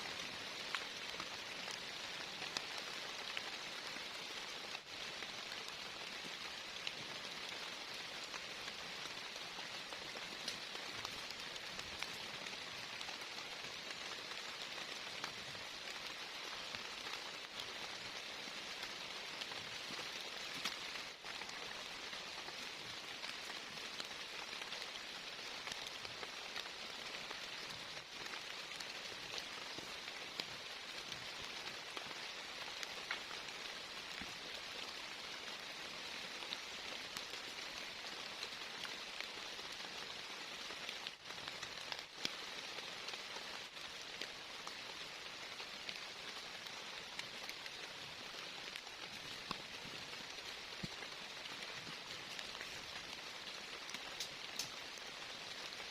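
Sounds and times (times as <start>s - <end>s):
heavy rain falling: 0.0s - 55.9s
raindrops ticking: 0.1s - 55.9s.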